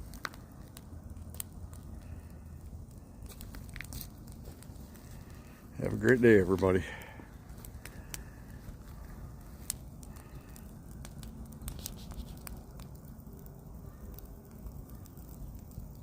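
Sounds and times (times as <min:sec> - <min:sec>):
fire crackling and popping: 0:00.0 - 0:16.0
low steady fire rumble: 0:00.0 - 0:16.0.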